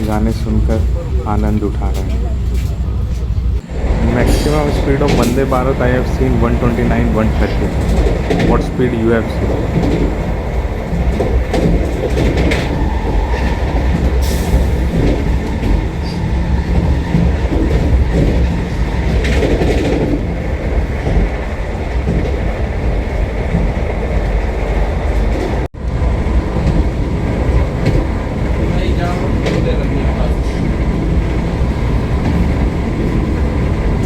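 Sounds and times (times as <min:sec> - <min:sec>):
train rumbling inside coach: 0:00.0 - 0:34.0.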